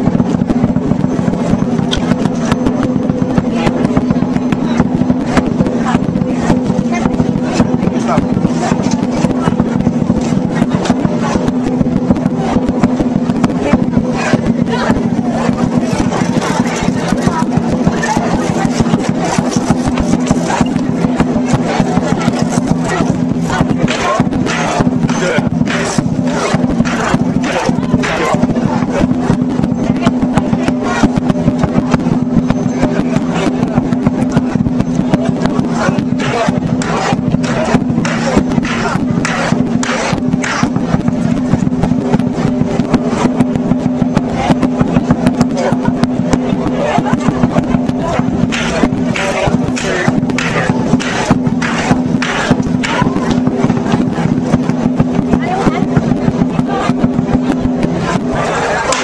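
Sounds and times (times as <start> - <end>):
large drum beating fast: 0.0 - 59.0
cymbals crashing: 0.1 - 59.0.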